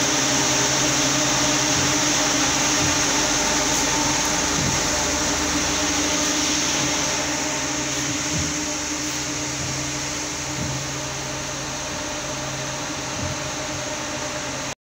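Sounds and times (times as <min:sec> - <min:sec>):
machinery humming: 0:00.0 - 0:14.8.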